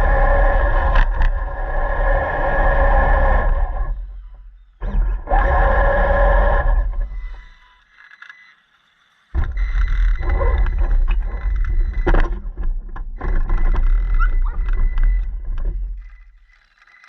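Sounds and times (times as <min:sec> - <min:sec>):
radio-controlled car rumble: 0:00.0 - 0:08.2, 0:09.3 - 0:17.0.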